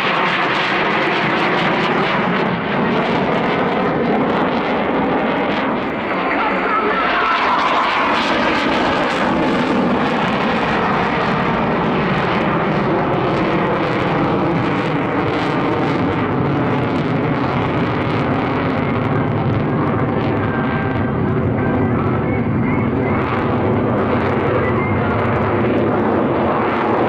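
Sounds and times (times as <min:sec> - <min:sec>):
airplane engine noise: 0:00.0 - 0:27.0.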